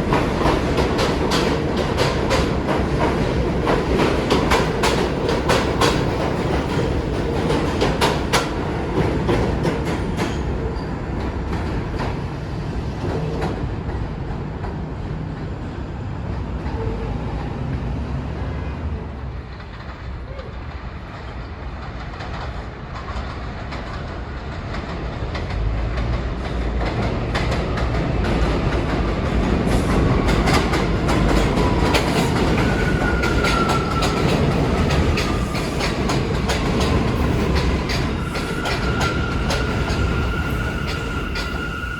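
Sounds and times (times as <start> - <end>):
train wheels clacking over rail joints: 0.0 - 12.2, 19.4 - 41.9
approaching train running noise: 0.0 - 41.9.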